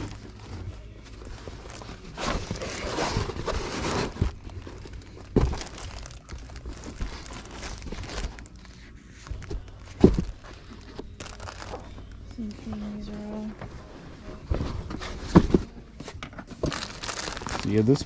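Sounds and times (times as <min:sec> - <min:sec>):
rummaging in a storage bin: 0:00.0 - 0:18.0.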